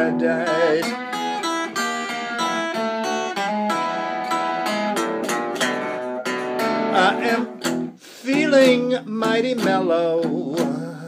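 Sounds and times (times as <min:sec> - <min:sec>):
guitar playing blues notes: 0:00.0 - 0:11.0.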